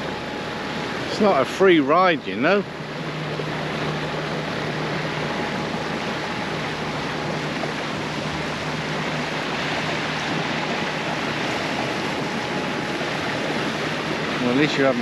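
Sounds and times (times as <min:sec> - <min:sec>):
diesel engine humming: 0:00.0 - 0:15.0
water rushing along boat hull: 0:00.0 - 0:15.0.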